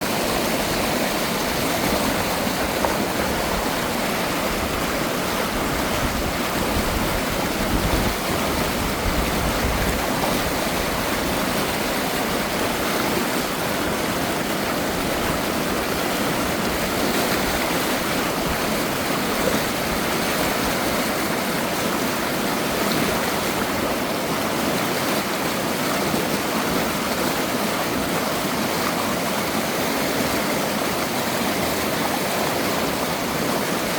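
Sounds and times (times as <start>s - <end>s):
stream running over rocks: 0.0s - 33.9s.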